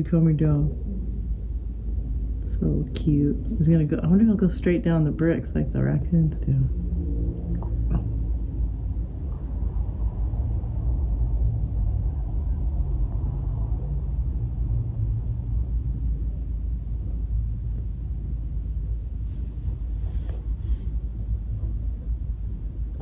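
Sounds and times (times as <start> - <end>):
faint hum: 0.0 - 23.0
steady low rumble: 0.0 - 23.0.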